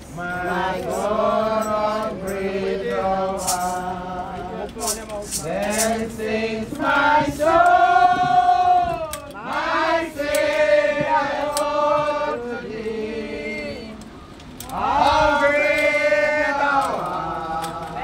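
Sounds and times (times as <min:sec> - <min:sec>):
congregation singing a hymn: 0:00.0 - 0:18.0.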